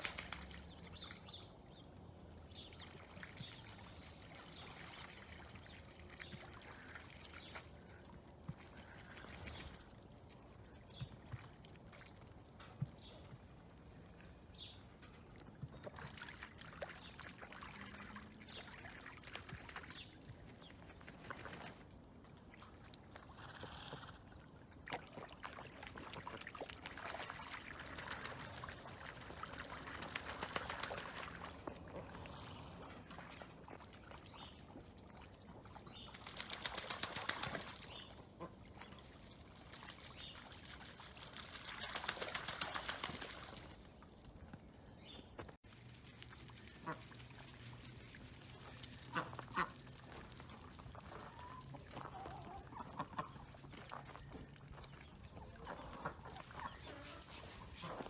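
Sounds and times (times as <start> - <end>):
ducks dabbling and splashing: 0.0 - 58.0.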